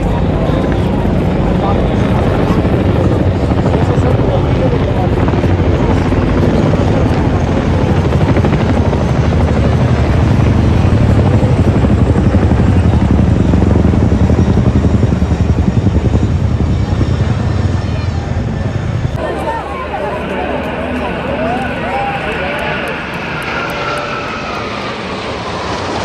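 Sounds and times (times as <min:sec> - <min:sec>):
helicopter rotor blades beating: 0:00.0 - 0:26.0.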